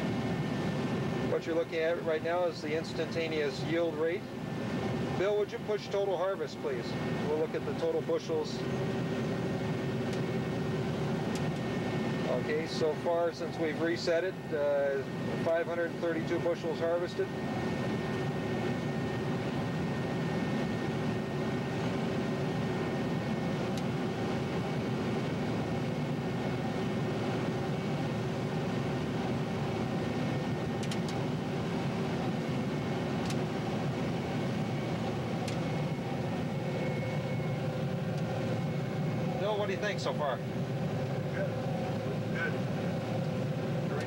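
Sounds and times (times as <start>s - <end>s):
combine harvester drone: 0.0s - 44.0s.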